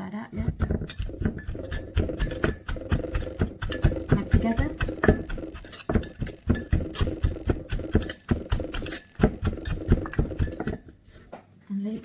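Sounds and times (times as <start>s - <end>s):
pestle knocking in a mortar: 0.4s - 11.0s.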